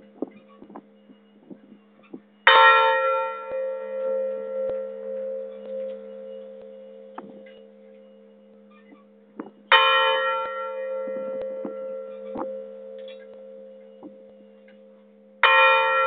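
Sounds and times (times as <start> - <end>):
large church bell ringing: 0.0 - 16.0.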